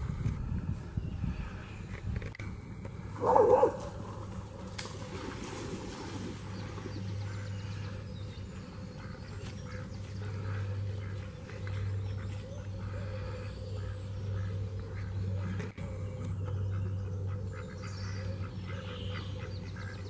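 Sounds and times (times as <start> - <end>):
low hum: 0.0 - 20.0
ducks quacking: 3.2 - 20.0.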